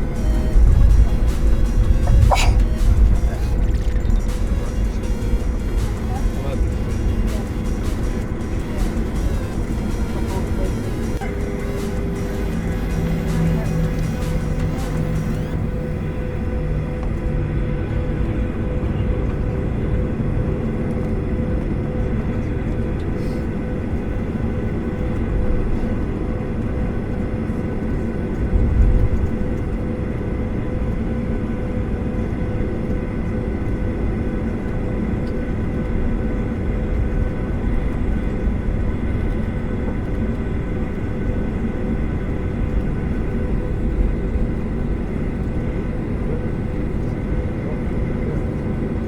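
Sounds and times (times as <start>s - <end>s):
jet engines whining and humming: 0.0s - 49.0s.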